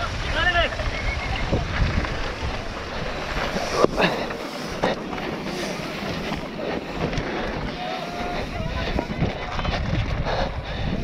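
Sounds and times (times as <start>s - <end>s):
bike tyres rumbling and rattling: 0.0s - 11.0s
wind buffeting microphone: 0.0s - 11.0s.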